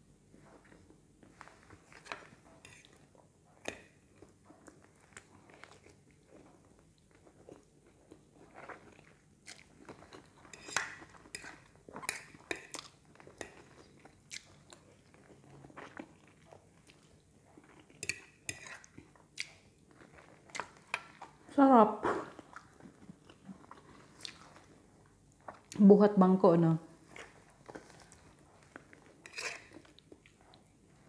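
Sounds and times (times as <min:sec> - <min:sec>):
person chewing noodles: 0:00.5 - 0:21.5, 0:22.1 - 0:25.8, 0:27.0 - 0:31.0.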